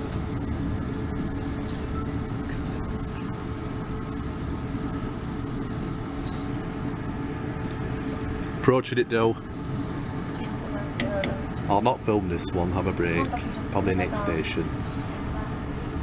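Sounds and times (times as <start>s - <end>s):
faint constant hum: 0.0s - 16.0s.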